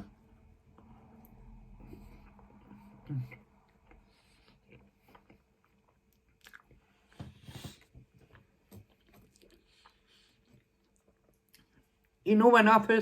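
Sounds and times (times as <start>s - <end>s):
person chewing food: 0.6s - 12.2s.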